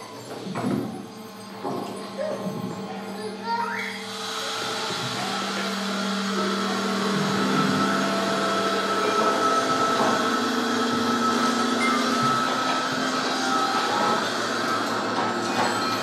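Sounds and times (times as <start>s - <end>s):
electronic noise drone: 0.0s - 16.0s.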